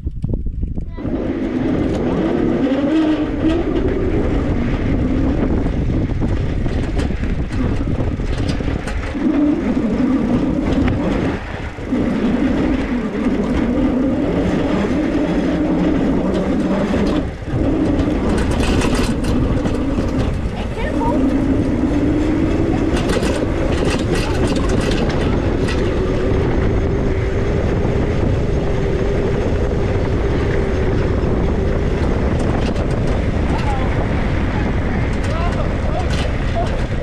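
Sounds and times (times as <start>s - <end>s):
e-bike motor hum: 0.0s - 37.0s
rushing noise: 0.9s - 37.0s.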